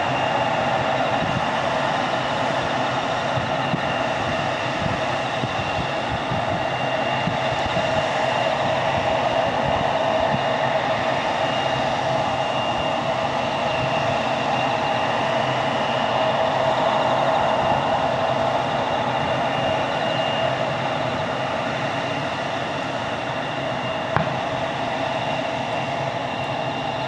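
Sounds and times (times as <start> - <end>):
jet engines humming with whine: 0.0 - 27.0.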